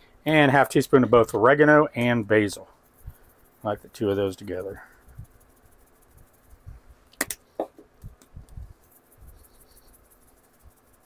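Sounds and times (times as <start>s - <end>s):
spice rattling from jar: 2.0s - 11.0s.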